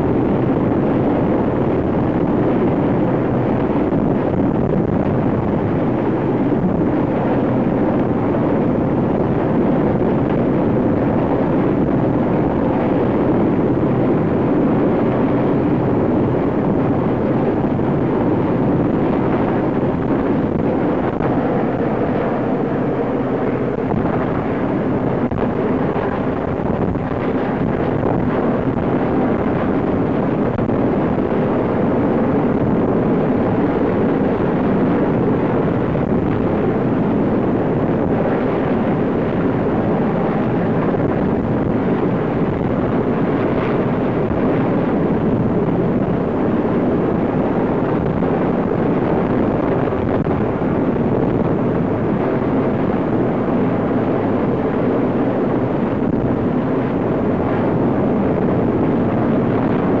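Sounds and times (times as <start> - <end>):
helicopter rotor and engine: 0.0 - 60.0
wind on the microphone: 0.0 - 60.0.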